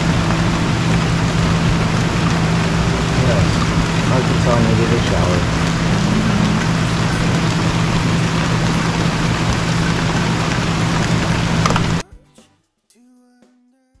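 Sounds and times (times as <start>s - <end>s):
heavy rain falling: 0.0s - 12.0s
low steady hum: 0.0s - 12.0s.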